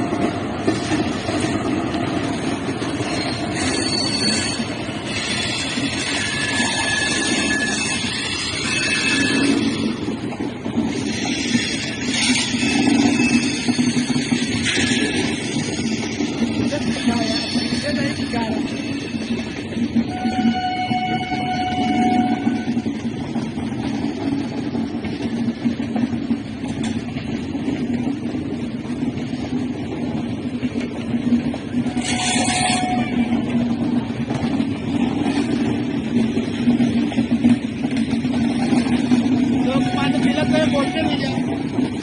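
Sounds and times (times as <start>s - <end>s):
train rumbling on rails: 0.0s - 42.0s.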